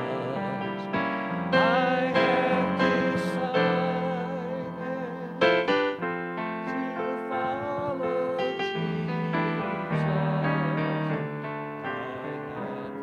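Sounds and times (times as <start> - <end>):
slow held keyboard chords: 0.0 - 13.0
wavering keyboard melody: 0.0 - 13.0.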